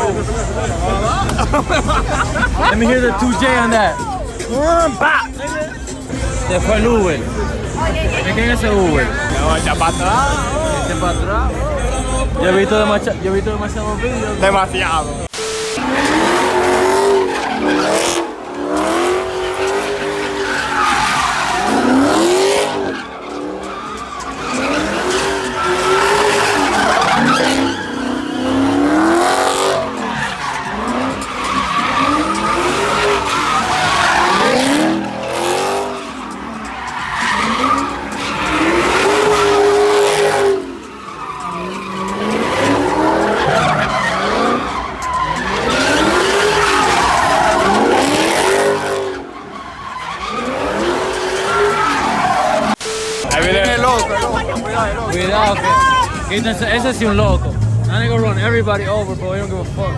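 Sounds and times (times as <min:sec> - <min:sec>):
tires skidding on pavement: 0:00.0 - 0:15.1, 0:15.8 - 0:59.9
car engine revving: 0:00.0 - 0:59.9.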